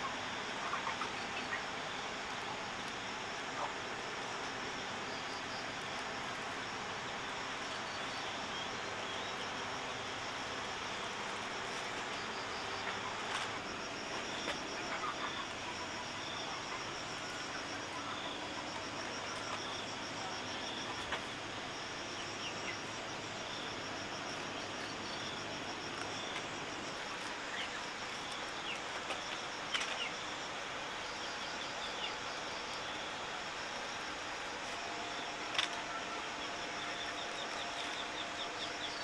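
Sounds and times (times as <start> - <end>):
background hiss: 0.0 - 39.0
insects trilling: 0.0 - 39.0.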